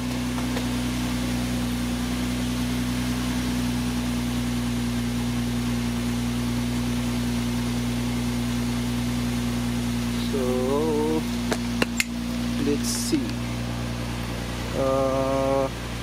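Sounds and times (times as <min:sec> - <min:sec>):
car engine at high idle: 0:00.0 - 0:16.0.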